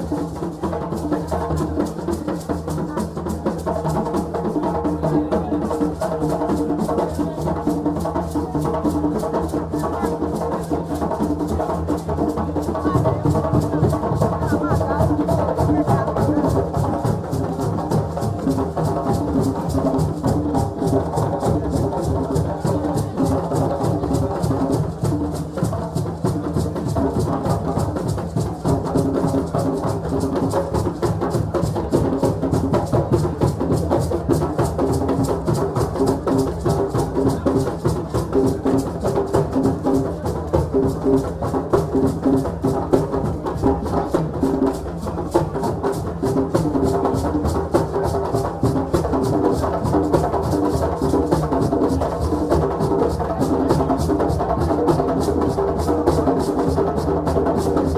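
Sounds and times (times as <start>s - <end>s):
drums in fast rhythm: 0.0s - 57.9s.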